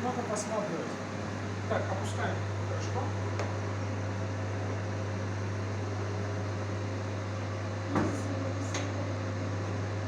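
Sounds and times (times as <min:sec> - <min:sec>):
laser cutter electrical hum: 0:00.0 - 0:10.0.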